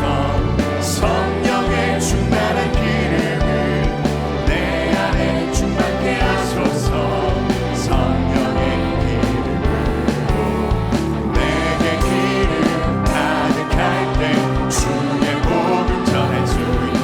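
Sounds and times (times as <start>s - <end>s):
person singing: 0.0s - 17.0s
steady drum beat: 0.0s - 17.0s
worship band playing: 0.0s - 17.0s.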